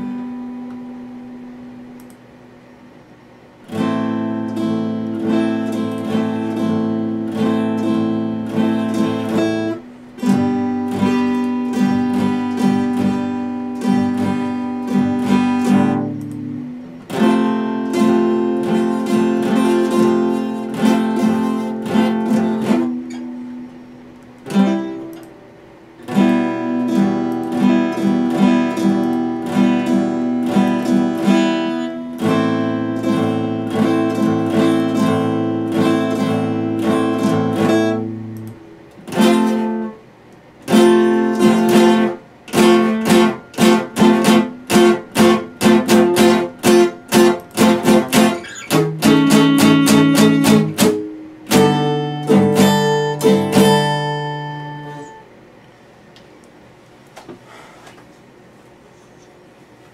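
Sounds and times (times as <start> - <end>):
acoustic guitar strumming: 0.0 - 2.0, 3.6 - 55.4.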